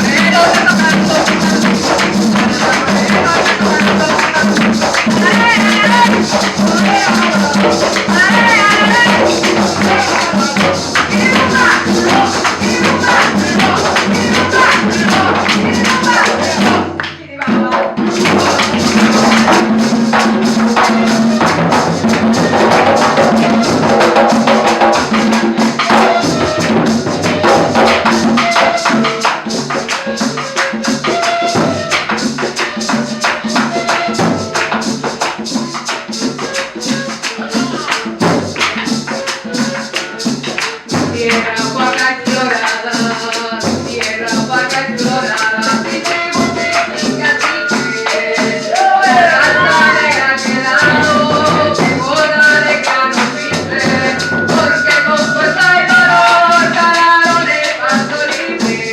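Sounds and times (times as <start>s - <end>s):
live cumbia band playing: 0.0s - 58.9s
person singing: 0.0s - 58.9s.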